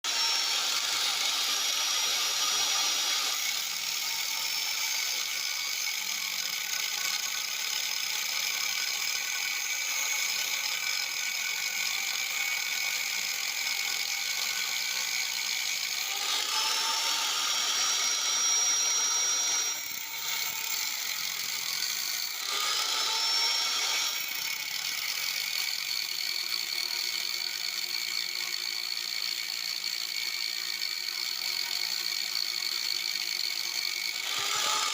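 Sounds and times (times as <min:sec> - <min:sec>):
electric drill motor whine: 0:00.0 - 0:34.9.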